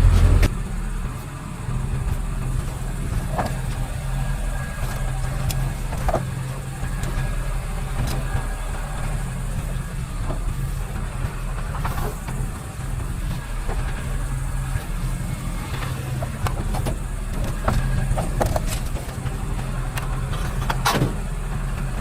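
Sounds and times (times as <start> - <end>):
vehicle engine low hum: 0.0 - 22.0.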